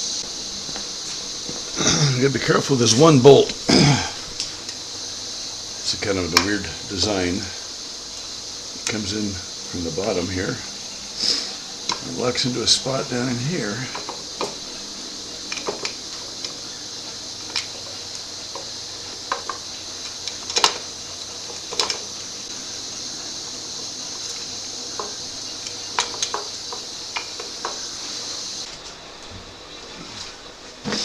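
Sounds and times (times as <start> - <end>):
steady high hiss: 0.0 - 31.0.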